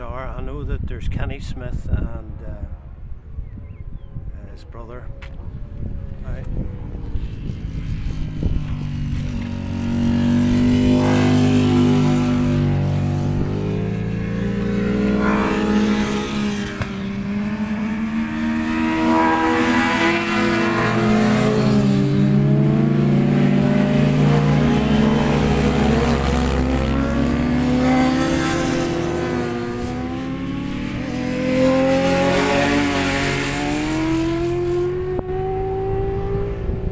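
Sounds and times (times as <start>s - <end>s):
racing motorcycle engines: 2.3s - 36.9s.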